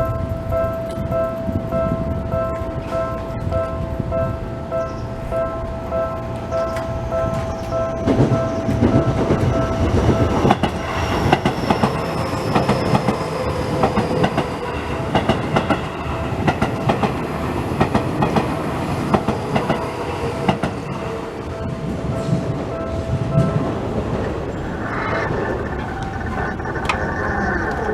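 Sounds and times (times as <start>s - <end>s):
crossing warning bell ringing: 0.0s - 24.7s
train wheels clattering over rail joints: 0.0s - 27.9s.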